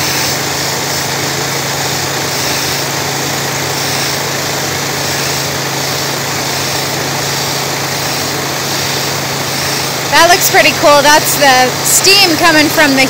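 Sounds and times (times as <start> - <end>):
pressure washer engine running: 0.0 - 13.0
water spray hissing on concrete: 0.0 - 13.0.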